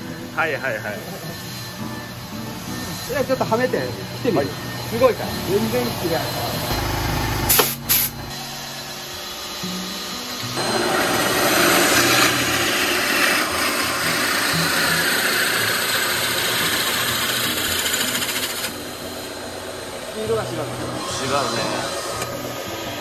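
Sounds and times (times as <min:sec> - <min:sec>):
drill press boring into wood: 0:00.4 - 0:23.0.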